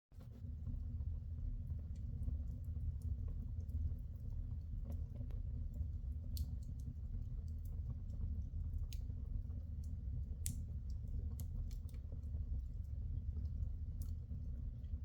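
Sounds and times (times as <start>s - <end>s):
steady low rumble: 0.2s - 15.0s
wood fire crackling: 1.9s - 15.0s.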